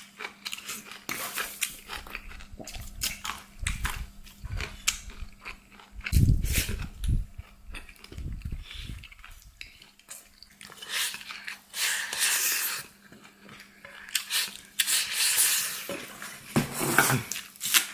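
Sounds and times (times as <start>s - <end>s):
chewing and crunching food: 0.0s - 16.5s, 17.1s - 17.9s.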